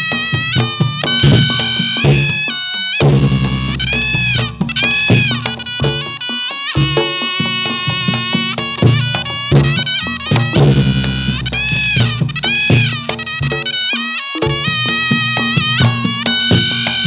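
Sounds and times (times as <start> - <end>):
drum strokes: 0.0 - 17.0
shawm playing reedy melody: 0.0 - 17.0.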